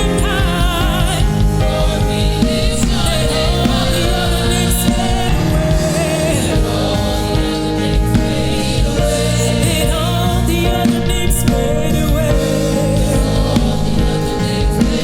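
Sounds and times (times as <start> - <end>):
gospel singing with band: 0.0 - 15.0.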